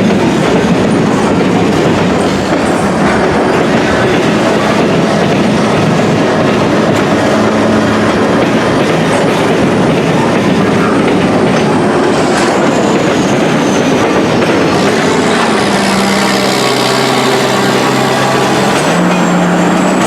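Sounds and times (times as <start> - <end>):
train wheels clattering over rails: 0.0 - 20.0.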